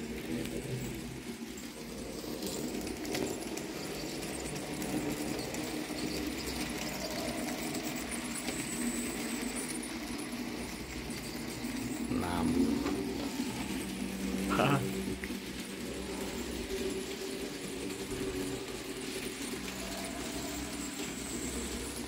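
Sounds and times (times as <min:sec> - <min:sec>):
model train motor whir: 0:00.0 - 0:22.0
wheels rolling on rails: 0:00.0 - 0:22.0.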